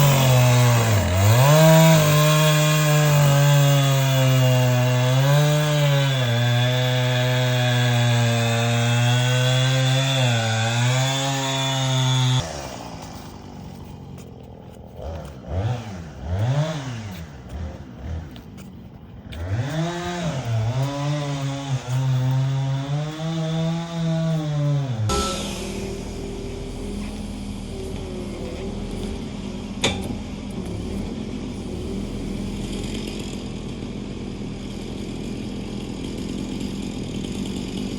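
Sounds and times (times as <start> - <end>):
diesel engine running at high revs: 0.0 - 37.9.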